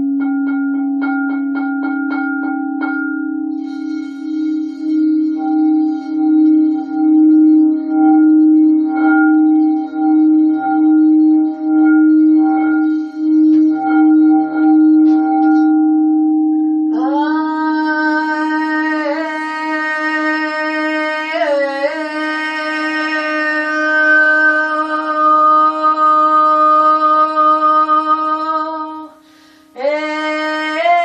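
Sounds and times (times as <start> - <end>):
long-held note rich in overtones: 0.0 - 31.0
singing bowl ringing: 0.0 - 31.0.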